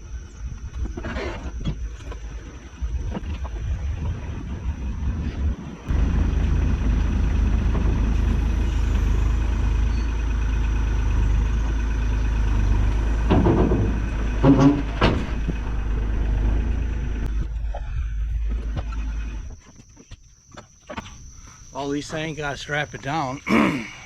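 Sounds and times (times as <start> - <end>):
mini excavator diesel engine: 0.0 - 19.6.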